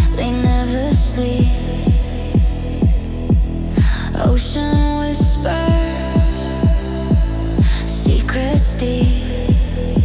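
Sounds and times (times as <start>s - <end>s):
four-on-the-floor kick drum: 0.0s - 10.0s.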